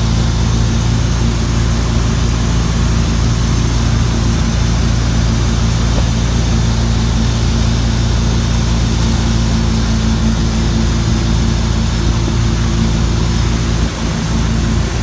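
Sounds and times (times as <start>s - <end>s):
boat engine running: 0.0s - 15.0s
wind: 0.0s - 15.0s.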